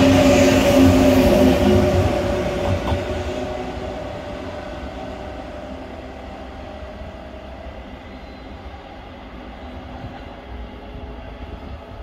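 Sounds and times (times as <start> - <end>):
high-speed train rumble: 0.0 - 12.0.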